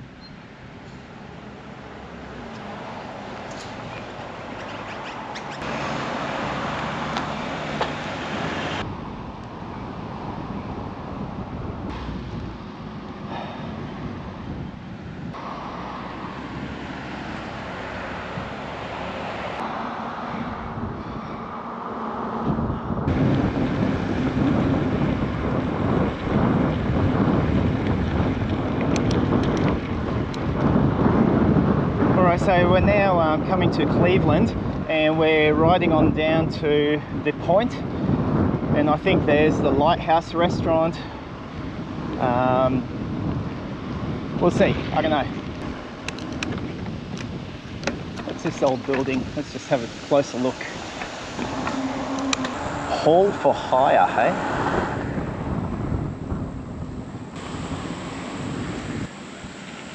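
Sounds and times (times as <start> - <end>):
road traffic and wind rushing: 0.0 - 59.9.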